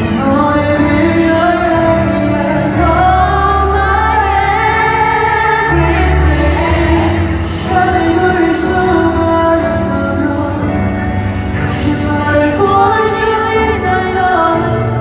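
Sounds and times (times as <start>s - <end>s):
backing music: 0.0s - 15.0s
deep bass notes: 0.0s - 15.0s
man singing into a microphone: 0.0s - 15.0s.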